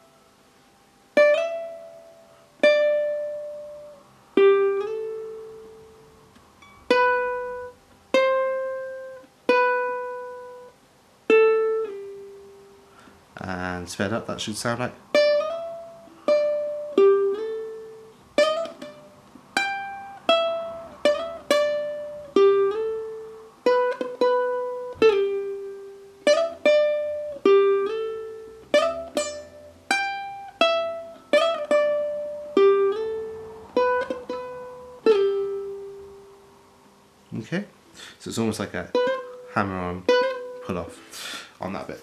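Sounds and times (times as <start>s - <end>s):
ukulele melody: 1.1s - 36.6s, 38.0s - 42.0s.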